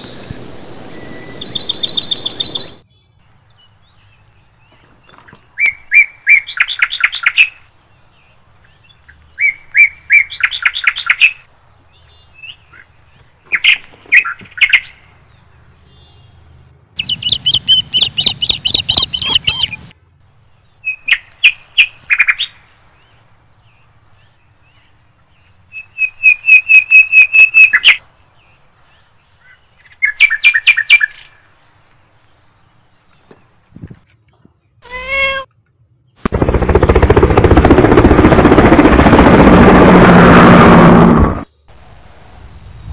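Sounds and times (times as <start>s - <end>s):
songbird chirping: 0.0s - 36.2s.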